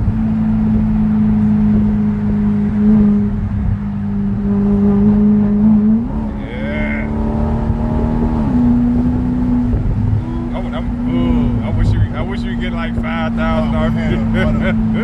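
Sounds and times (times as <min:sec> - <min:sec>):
car engine droning at cruise: 0:00.0 - 0:15.0.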